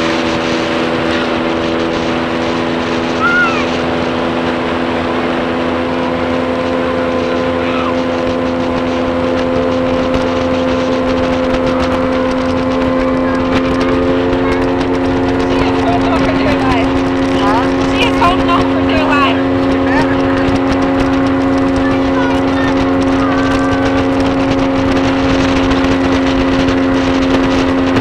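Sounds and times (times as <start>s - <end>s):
motorboat engine running: 0.0s - 28.0s
wind and water rushing: 0.0s - 28.0s.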